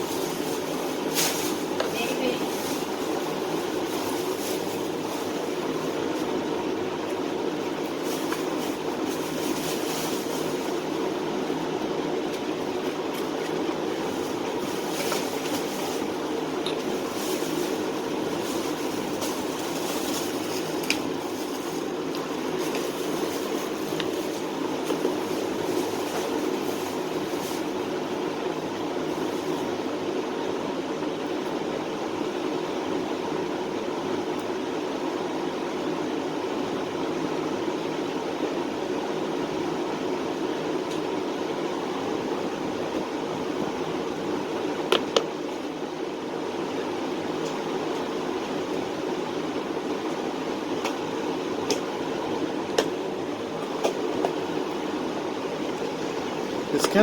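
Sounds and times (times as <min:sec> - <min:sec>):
fan-like whir: 0:00.0 - 0:57.0.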